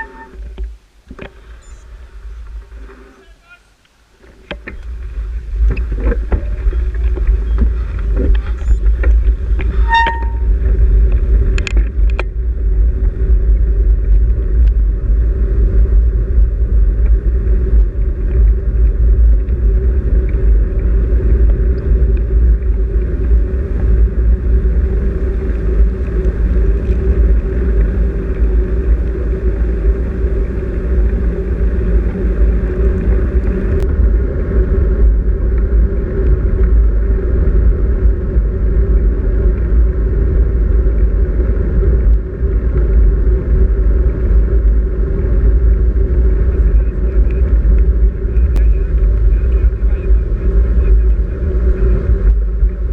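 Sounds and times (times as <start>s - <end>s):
constant hum: 0.0s - 52.9s
wind and road rumble: 0.0s - 52.9s.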